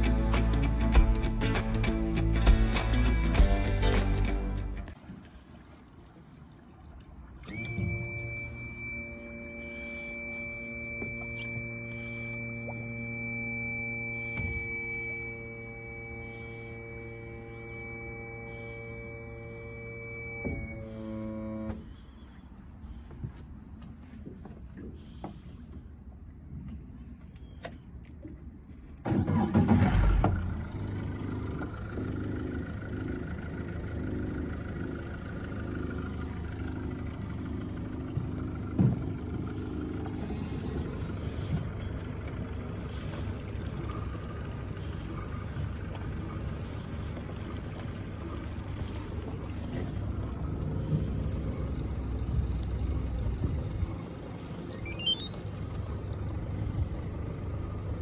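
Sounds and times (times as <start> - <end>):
boat engine cranking and idling: 0.0 - 58.0.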